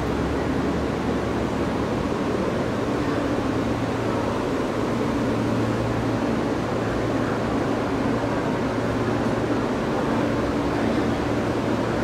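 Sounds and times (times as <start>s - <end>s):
subway car motors and ventilation: 0.0s - 12.0s
subway wheels on rail: 0.0s - 12.0s.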